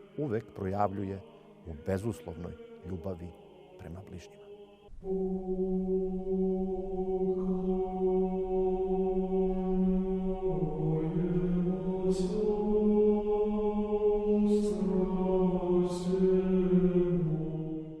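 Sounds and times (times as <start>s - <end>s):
low voices chanting: 0.0s - 18.0s.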